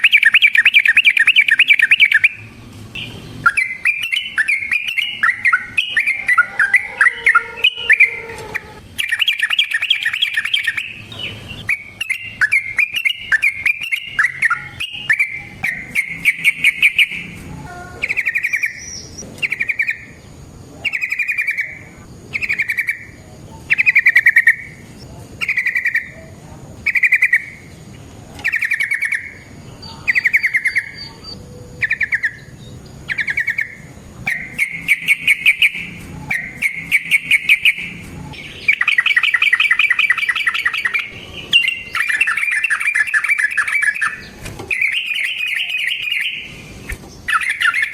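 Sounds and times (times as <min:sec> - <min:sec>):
bird singing chattering trills: 0:00.0 - 0:47.9.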